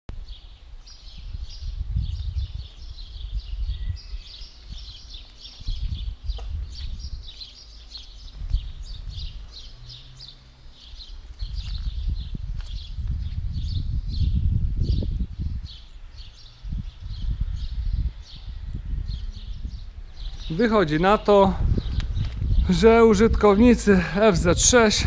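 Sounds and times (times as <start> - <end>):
low rumble on microphone: 0.1 - 25.0
small birds chirping: 0.1 - 25.0.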